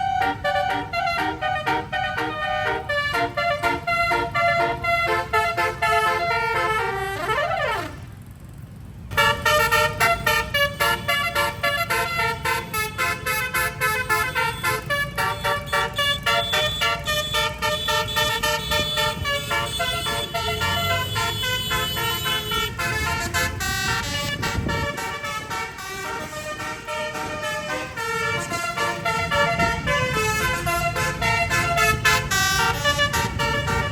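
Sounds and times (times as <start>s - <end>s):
bus air horn melody: 0.0s - 33.9s.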